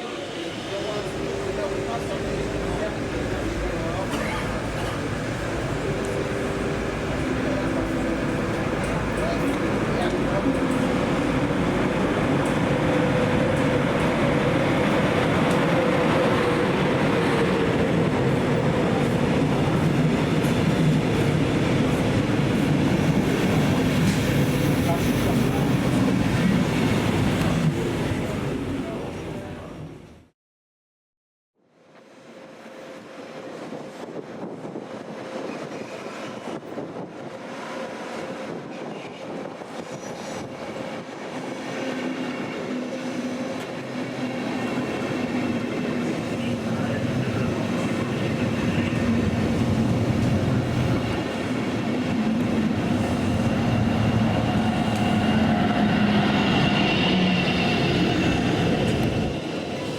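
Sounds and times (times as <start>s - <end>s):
train wheels rumbling on track: 0.0s - 30.2s, 33.0s - 59.9s.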